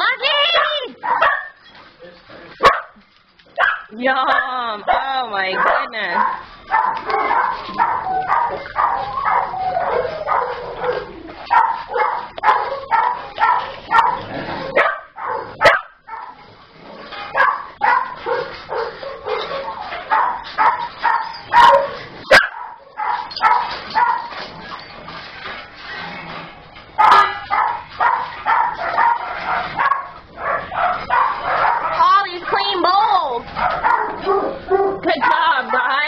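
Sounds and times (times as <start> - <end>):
small dogs barking: 0.4 - 1.6, 2.6 - 3.0, 3.6 - 16.4, 17.3 - 24.4, 27.0 - 36.0.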